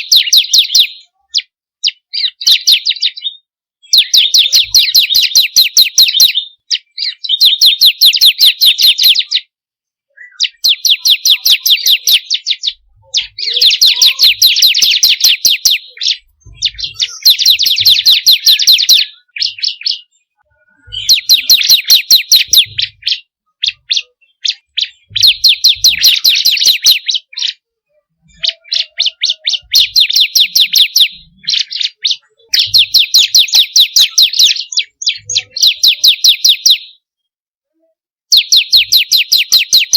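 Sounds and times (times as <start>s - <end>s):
bird chipping song: 0.0s - 37.1s, 38.3s - 39.9s.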